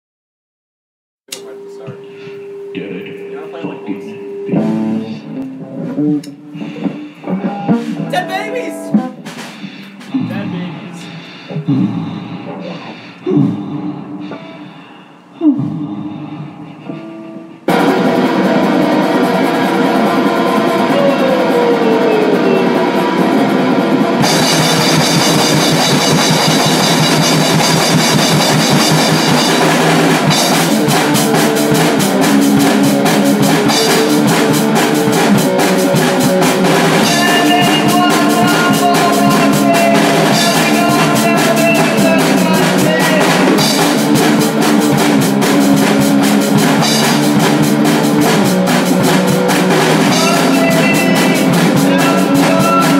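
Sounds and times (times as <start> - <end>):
distorted electric guitar: 1.3 - 52.9
drum kit: 1.3 - 52.9.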